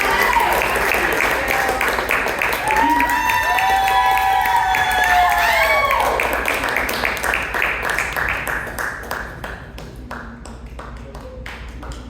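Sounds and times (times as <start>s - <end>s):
audience applause: 0.0s - 9.8s.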